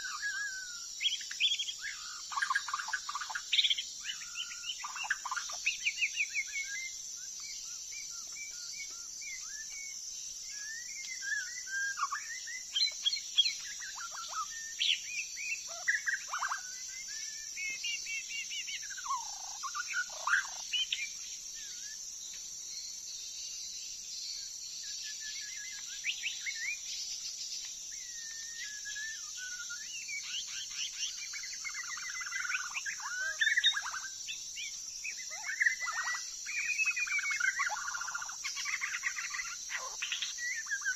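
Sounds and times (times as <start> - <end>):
bird singing whistled phrases: 0.0 - 22.0, 24.9 - 26.9, 27.9 - 40.9
high-pitched insect drone: 0.0 - 40.9.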